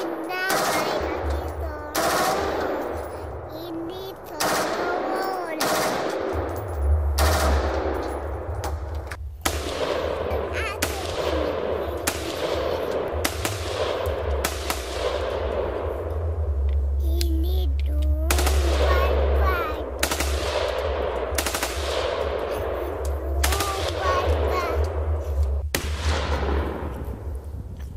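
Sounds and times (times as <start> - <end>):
echoing gunshots: 0.0 - 3.5, 4.1 - 16.6, 18.3 - 27.3
low rumble: 0.0 - 27.9.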